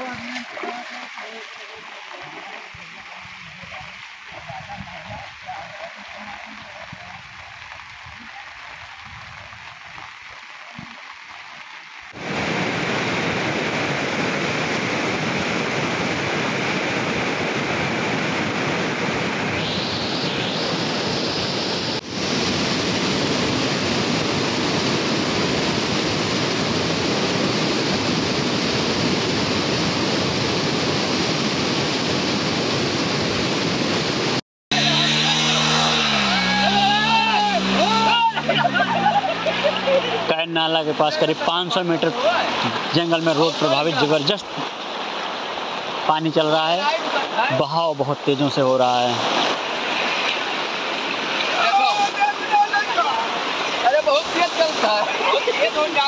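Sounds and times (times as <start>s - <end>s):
floodwater rushing: 0.0s - 56.0s
water flowing: 0.0s - 56.0s.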